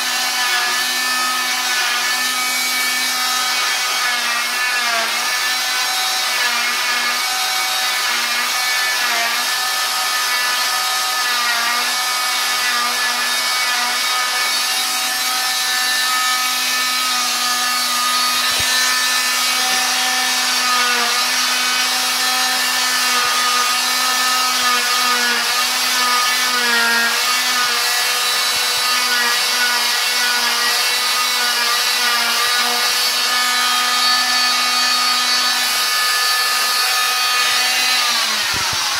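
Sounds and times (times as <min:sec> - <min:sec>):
cast saw cutting: 0:00.0 - 0:38.9.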